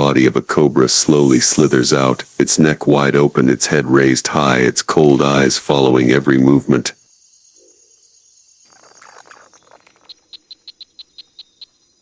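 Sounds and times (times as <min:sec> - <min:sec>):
insect chirps: 0:00.0 - 0:12.0
insects droning: 0:00.0 - 0:12.0.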